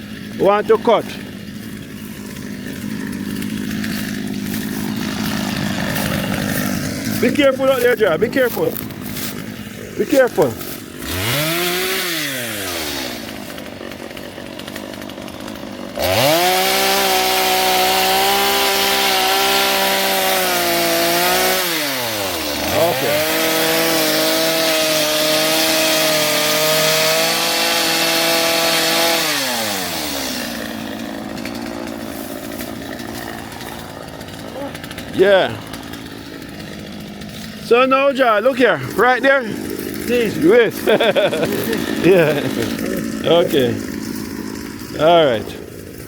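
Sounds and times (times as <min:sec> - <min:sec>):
gas chainsaw cutting: 0:00.0 - 0:46.0.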